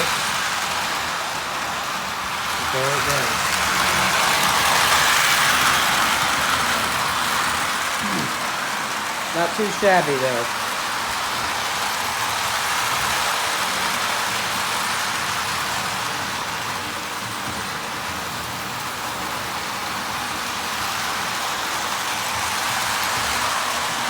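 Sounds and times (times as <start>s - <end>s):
toy train running on track: 0.0s - 24.0s.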